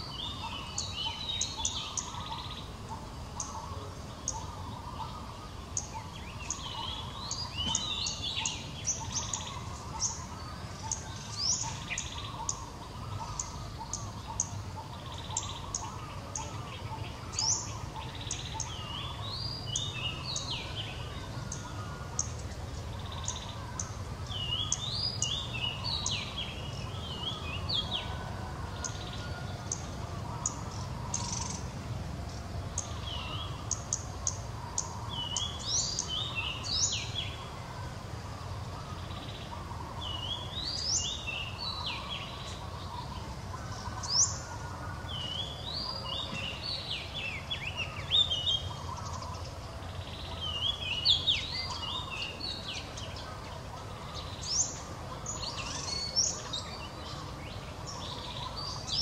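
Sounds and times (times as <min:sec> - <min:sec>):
songbird singing high chirps: 0:00.0 - 0:59.0.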